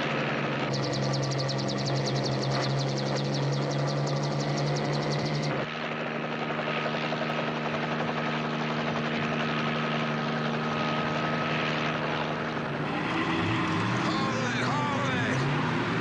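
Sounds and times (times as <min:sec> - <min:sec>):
helicopter rotor and engine drone: 0:00.0 - 0:16.0.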